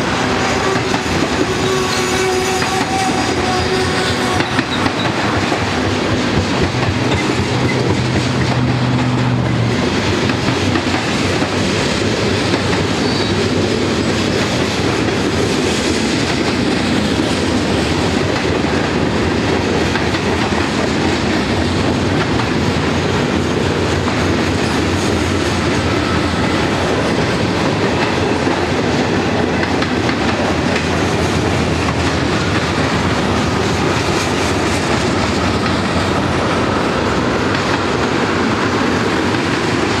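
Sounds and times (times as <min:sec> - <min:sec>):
freight train rumbling past: 0:00.0 - 0:40.0
train wheels clacking on rails: 0:00.0 - 0:40.0.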